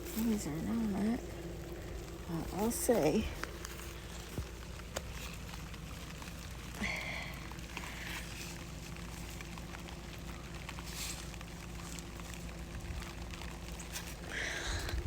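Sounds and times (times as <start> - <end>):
drizzle pattering on plants: 0.0 - 15.0.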